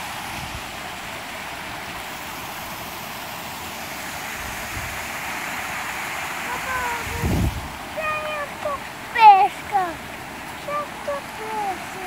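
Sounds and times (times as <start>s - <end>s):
rush of running water: 0.0s - 12.0s.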